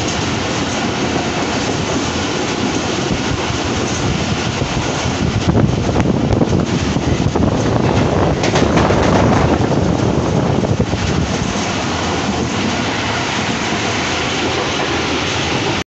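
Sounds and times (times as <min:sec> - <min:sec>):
train wheels rumbling on track: 0:00.0 - 0:15.8
wind buffeting microphone: 0:00.0 - 0:15.8.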